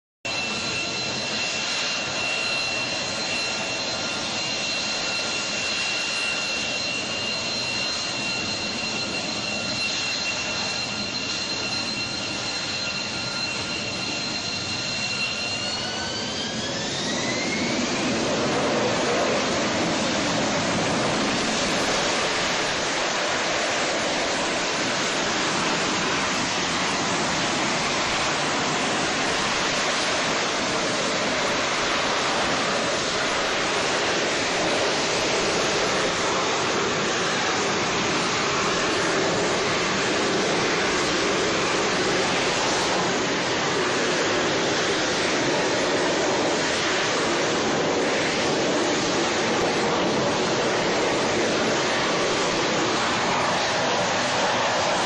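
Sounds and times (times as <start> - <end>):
fighter jet engine whine and roar: 0.3 - 55.0.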